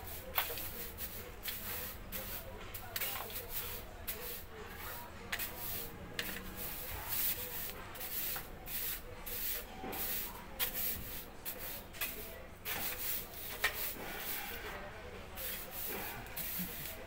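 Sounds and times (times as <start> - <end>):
broom sweeping concrete floor: 0.0 - 17.0.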